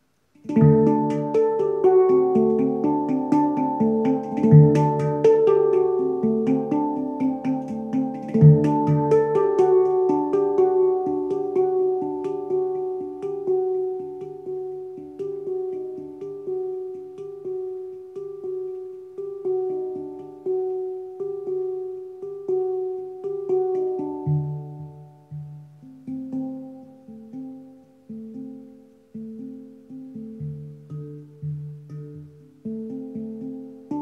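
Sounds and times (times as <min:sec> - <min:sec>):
hand-played steel drum notes: 0:00.4 - 0:34.0.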